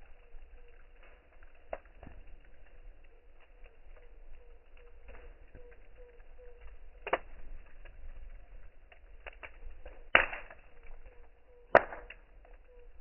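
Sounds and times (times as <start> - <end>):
burning wood popping: 0.0 - 13.0
campfire crackling: 0.0 - 13.0.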